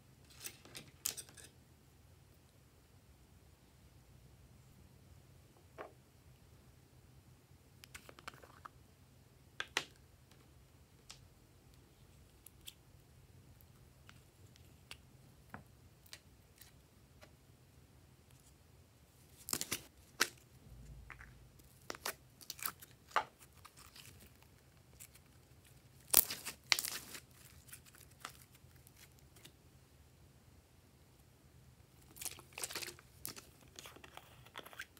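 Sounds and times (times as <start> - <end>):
faint low hum: 0.0 - 34.9.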